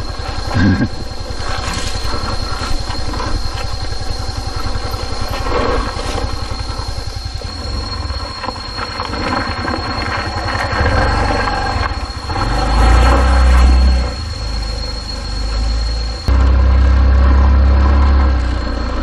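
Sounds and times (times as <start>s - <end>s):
scooter engine under load: 0.0s - 19.0s.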